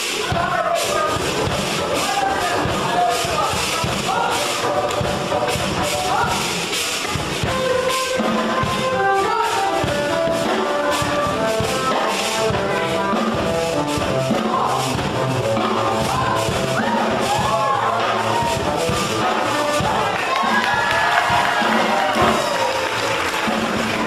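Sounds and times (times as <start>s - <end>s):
rock music with guitar and drums: 0.0s - 24.0s.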